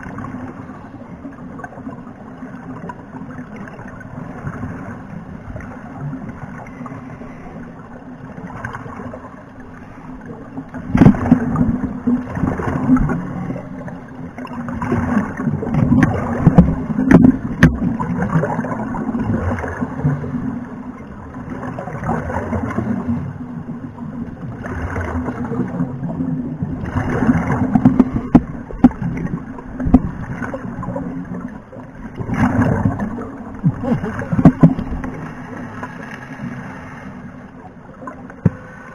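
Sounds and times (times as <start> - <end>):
underwater exhaled bubbles gurgling: 0.0 - 38.9.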